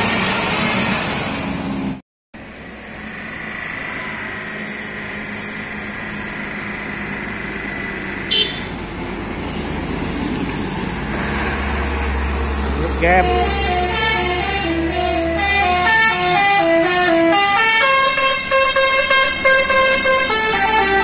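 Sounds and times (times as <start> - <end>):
road traffic: 0.0 - 21.0
truck diesel engine climbing: 0.0 - 21.0.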